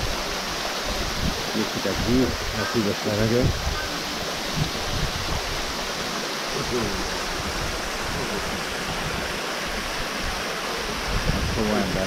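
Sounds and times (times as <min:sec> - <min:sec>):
small waterfall rushing: 0:00.0 - 0:12.0.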